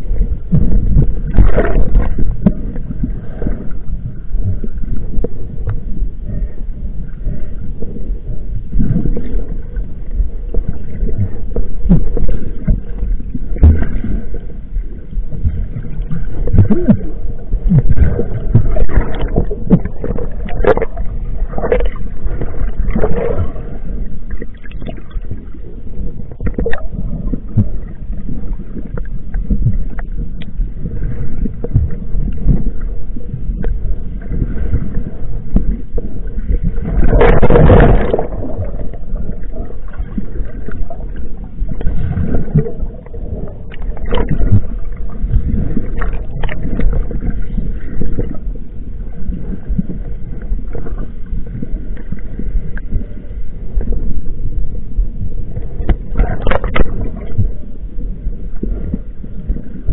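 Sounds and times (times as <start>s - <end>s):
wind noise on microphone: 0.0s - 6.6s, 15.2s - 23.8s, 26.2s - 59.9s
boat engine rumble: 0.0s - 59.9s
water noise: 0.0s - 59.9s.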